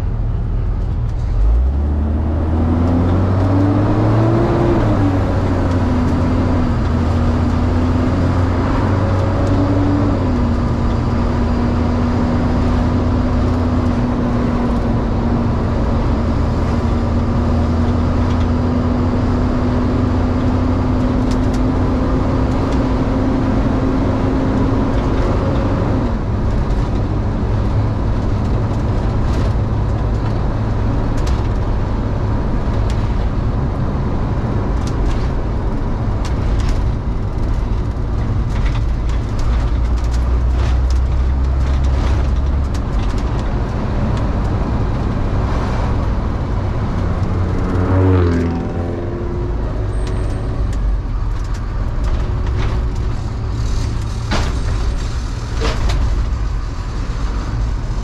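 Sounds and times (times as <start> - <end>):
road noise: 0.0 - 58.0
van engine: 0.0 - 58.0.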